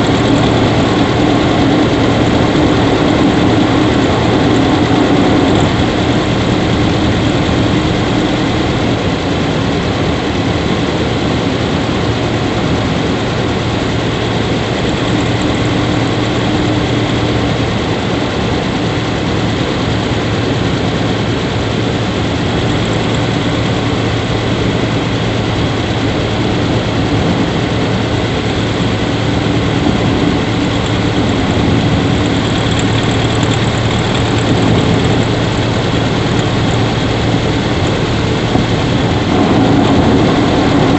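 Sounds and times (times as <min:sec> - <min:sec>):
car engine idling: 0:00.0 - 0:10.3, 0:13.4 - 0:40.9.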